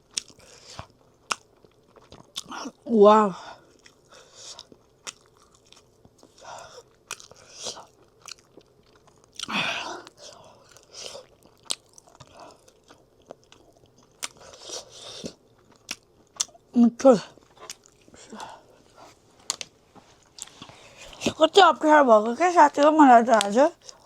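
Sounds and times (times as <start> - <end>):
person chewing food: 0.0 - 21.4, 23.3 - 24.0.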